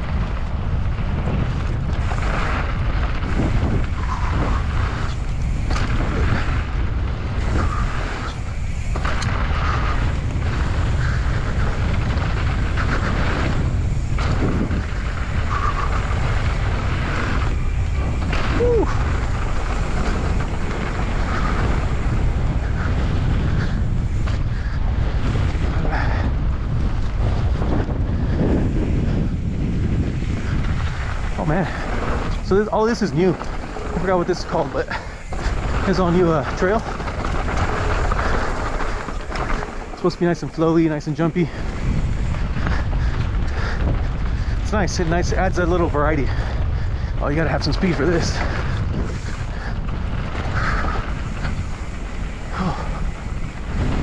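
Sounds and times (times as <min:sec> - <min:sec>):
bike knocks and rattles: 0:00.0 - 0:44.8, 0:46.3 - 0:54.0
wind rumbling on microphone: 0:00.0 - 0:54.0.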